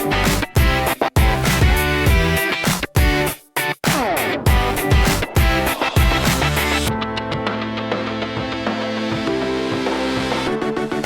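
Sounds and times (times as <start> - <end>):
guitar music with heavy beat: 0.0 - 11.0.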